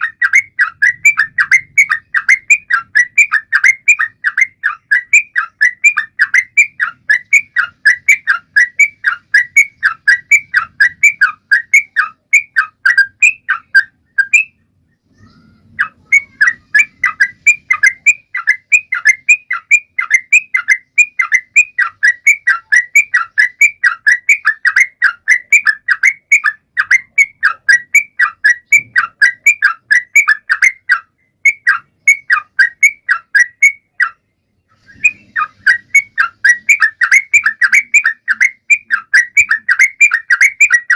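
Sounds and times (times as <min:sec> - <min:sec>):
bird chirping whistles: 0:00.0 - 0:34.2, 0:34.8 - 0:40.9.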